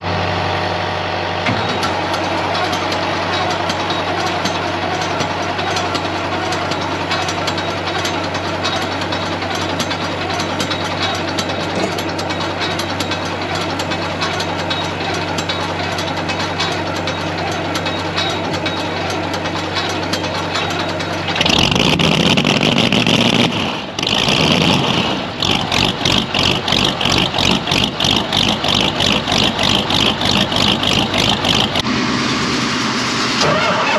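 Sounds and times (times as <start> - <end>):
heavy vehicle engine running: 0.0 - 33.9.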